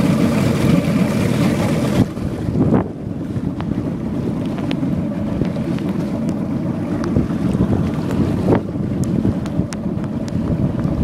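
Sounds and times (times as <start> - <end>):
outboard motor running: 0.0 - 11.0
wind noise on microphone: 0.5 - 11.0.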